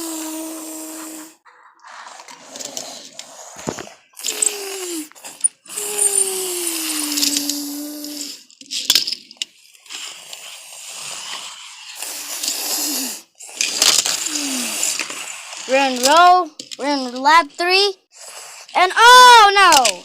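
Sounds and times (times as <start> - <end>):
toy cars rolling on track: 0.0 - 17.3, 18.6 - 20.0.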